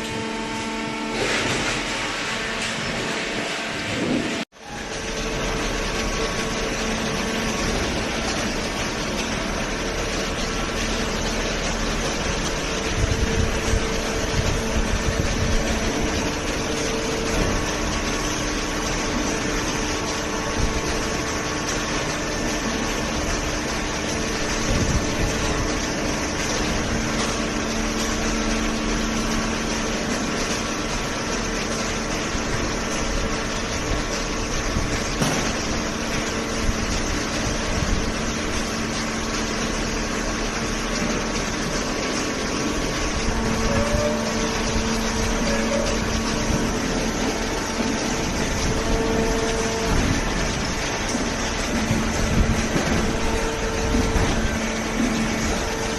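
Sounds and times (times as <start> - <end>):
baler motor humming: 0.0 - 55.9.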